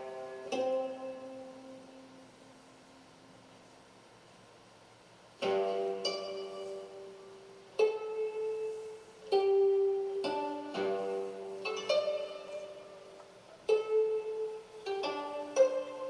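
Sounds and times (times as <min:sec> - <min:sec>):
plucked string instrument: 0:00.0 - 0:03.1, 0:05.4 - 0:16.0.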